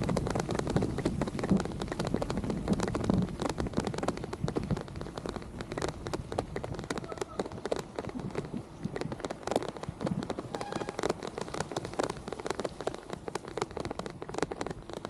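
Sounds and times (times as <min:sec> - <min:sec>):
bicycle tyres rumbling: 0:00.0 - 0:15.0
raindrops hitting microphone: 0:00.0 - 0:15.0
wind: 0:00.0 - 0:15.0.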